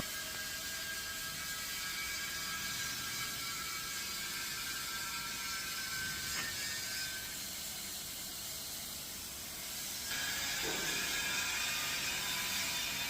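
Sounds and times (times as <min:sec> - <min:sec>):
welding arc hissing: 0:00.0 - 0:13.0.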